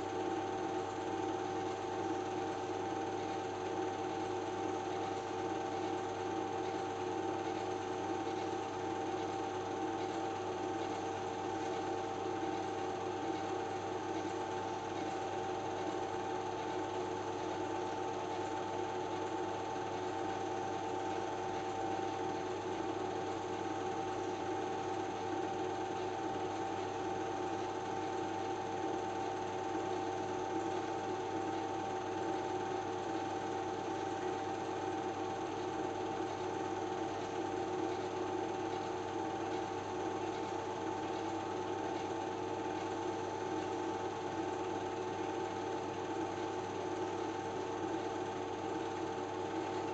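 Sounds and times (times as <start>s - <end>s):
film projector running: 0.0s - 49.9s.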